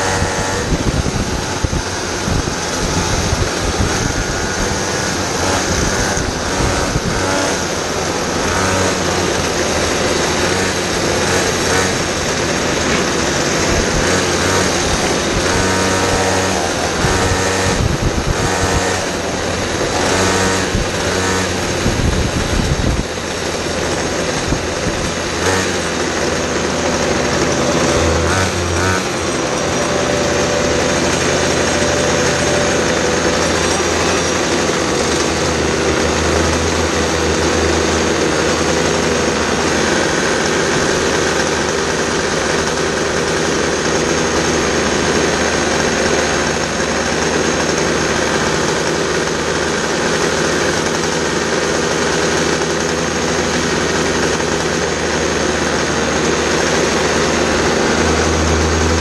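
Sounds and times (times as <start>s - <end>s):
other kart engines humming: 0.0s - 59.0s
small kart engine running: 0.0s - 59.0s.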